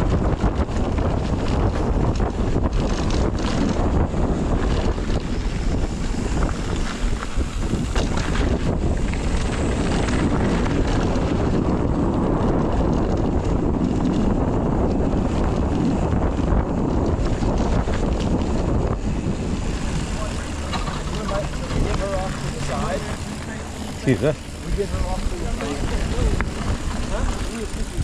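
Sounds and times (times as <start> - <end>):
bike rattling on rocky trail: 0.0 - 28.0
wind rushing over microphone: 0.0 - 28.0.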